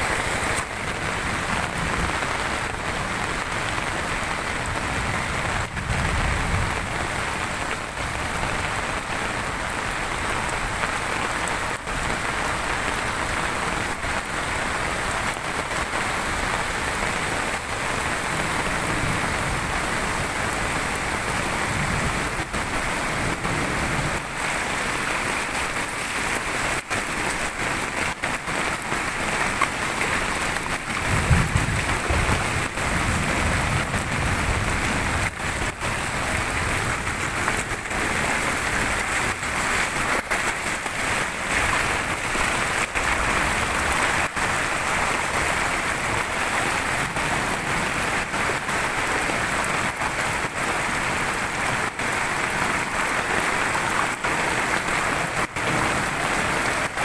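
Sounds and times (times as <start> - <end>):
floodwater rushing across road: 0.0 - 57.0
heavy rain: 0.0 - 57.0.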